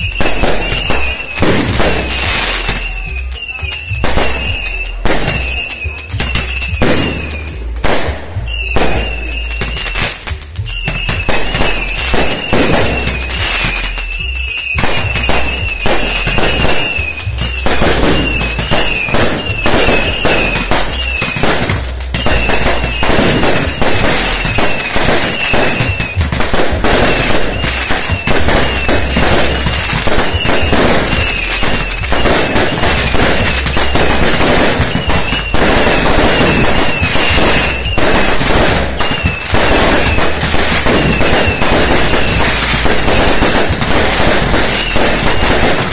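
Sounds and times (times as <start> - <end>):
high-pitched whistle: 0.0 - 7.8, 8.4 - 43.4, 44.4 - 45.4
firecrackers banging and crackling: 0.0 - 45.9.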